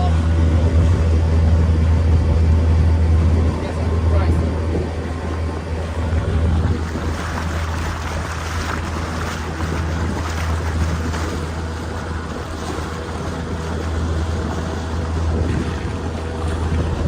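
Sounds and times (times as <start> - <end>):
motorboat engine droning: 0.0 - 17.0
water rushing: 0.0 - 17.0
wind noise: 0.0 - 17.0.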